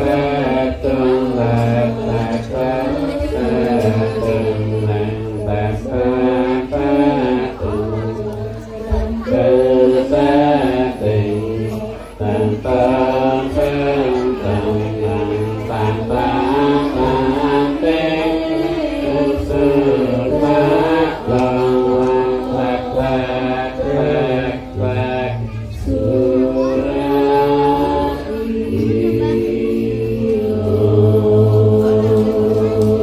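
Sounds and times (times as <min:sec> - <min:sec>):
person chanting: 0:00.0 - 0:33.0.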